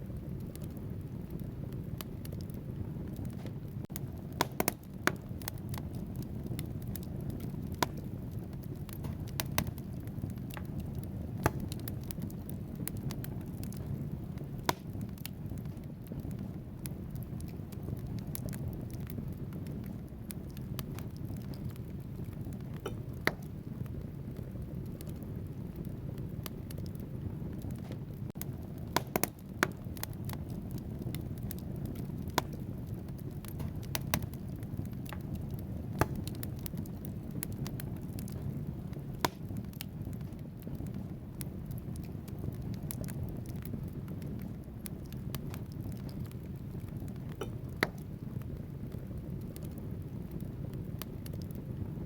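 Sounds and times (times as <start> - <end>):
burning logs crackling and popping: 0.0 - 52.0
fire flames rumbling: 0.0 - 52.0.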